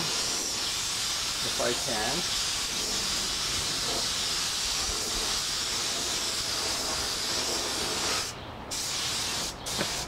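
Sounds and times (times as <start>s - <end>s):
paint spray gun hissing: 0.0s - 10.0s.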